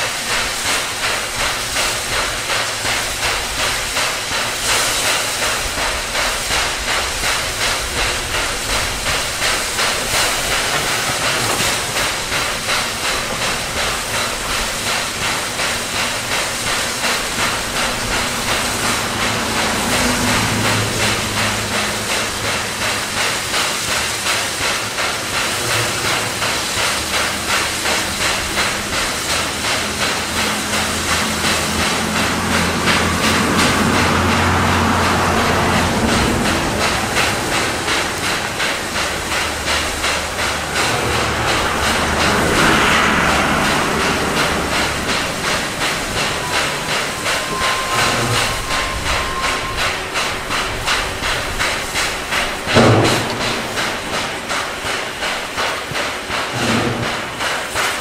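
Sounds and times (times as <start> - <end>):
steady hiss of steam: 0.0 - 58.0
steam locomotive exhaust chuffs: 0.0 - 58.0.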